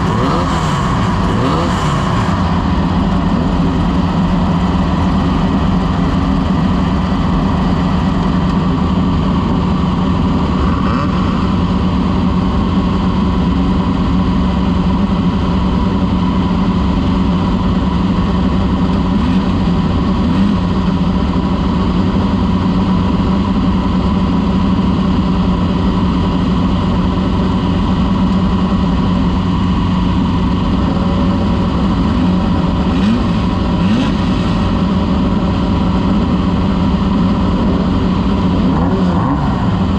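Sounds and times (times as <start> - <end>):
race vehicle engine droning: 0.0 - 39.9.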